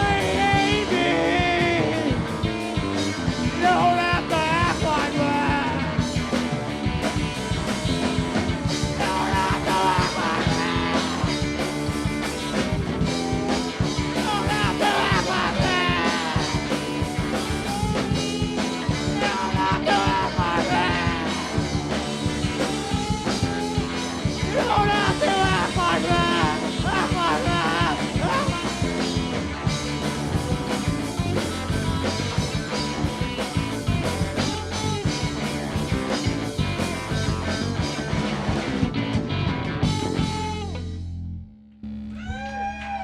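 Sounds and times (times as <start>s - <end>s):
live rock band playing: 0.0s - 41.2s
electric guitar lead line: 0.0s - 43.0s.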